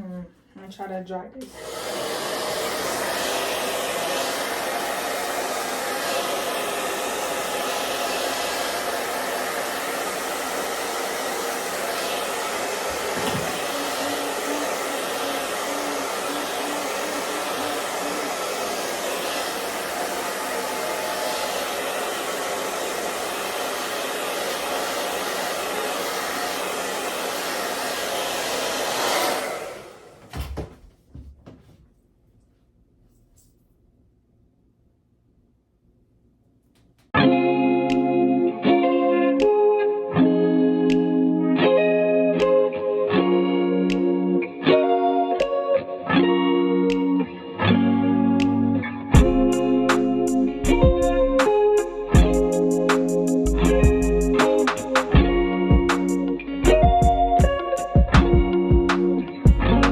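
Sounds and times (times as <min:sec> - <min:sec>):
hair dryer blowing: 0:01.4 - 0:30.8, 0:39.0 - 0:45.7, 0:46.6 - 0:59.9.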